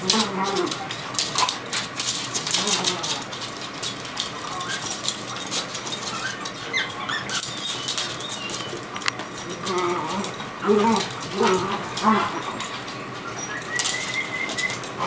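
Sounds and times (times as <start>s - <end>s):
dogs clicking and tapping: 0.0s - 15.0s
dogs whining: 0.0s - 15.0s.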